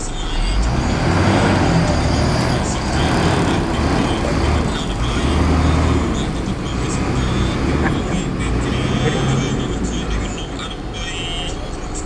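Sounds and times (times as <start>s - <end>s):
heavy diesel engine droning: 0.0s - 12.0s.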